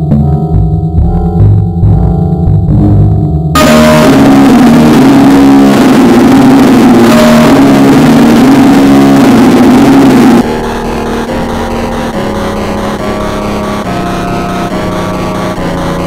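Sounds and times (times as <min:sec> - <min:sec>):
distorted synthesized music: 0:00.0 - 0:16.0
quieter music: 0:00.0 - 0:16.0.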